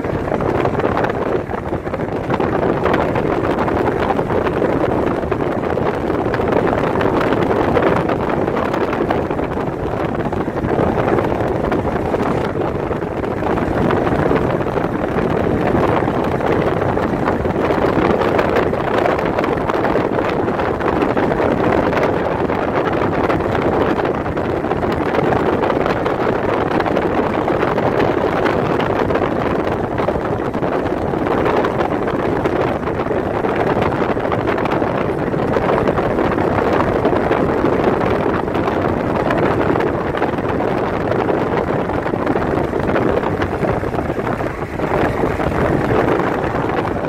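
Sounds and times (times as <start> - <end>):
car wind and road noise: 0.0 - 47.0
wind buffeting microphone: 0.0 - 47.0.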